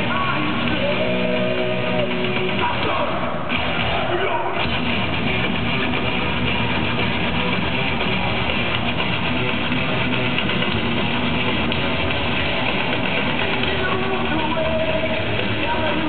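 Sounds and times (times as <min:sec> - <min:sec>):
electric bass: 0:00.0 - 0:04.0, 0:04.6 - 0:16.0
distorted electric guitars: 0:00.0 - 0:16.0
drums: 0:00.0 - 0:16.0.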